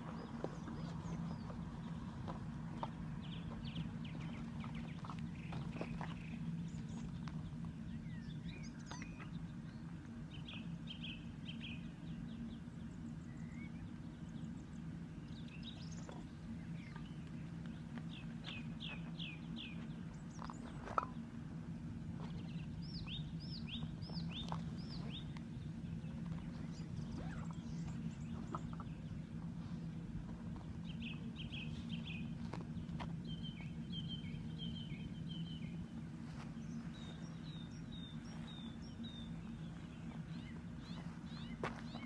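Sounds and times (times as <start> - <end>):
small birds chirping: 0.0 - 42.0
steady low hum: 0.0 - 42.0.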